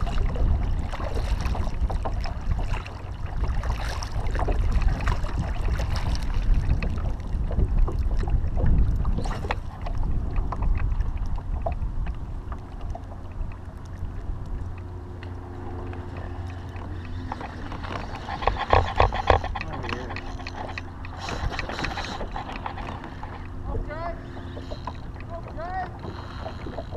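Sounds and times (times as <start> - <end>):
water splashing: 0.0 - 26.9
wind on microphone: 0.0 - 26.9.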